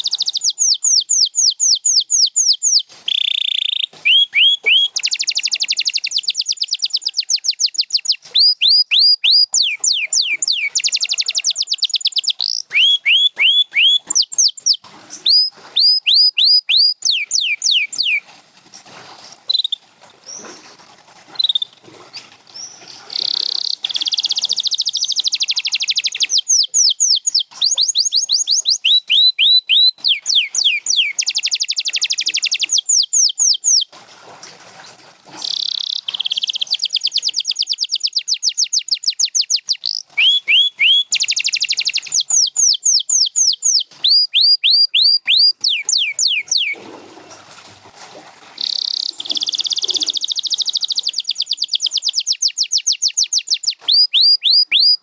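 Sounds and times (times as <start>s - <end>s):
canary singing: 0.0s - 18.2s, 21.4s - 33.9s, 35.4s - 46.8s, 48.6s - 55.0s.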